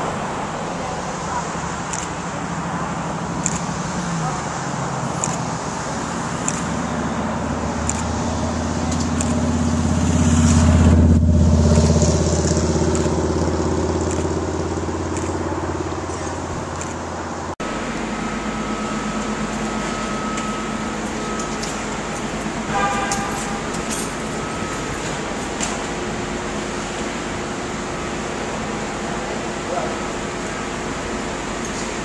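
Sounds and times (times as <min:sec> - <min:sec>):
steady engine rumble: 0:00.0 - 0:32.0
vehicle engine humming: 0:00.0 - 0:32.0.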